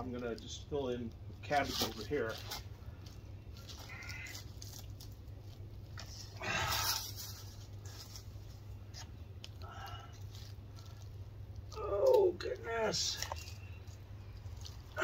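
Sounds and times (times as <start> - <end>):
crunchy rustle: 0.0 - 15.0
low steady rumble: 0.0 - 15.0.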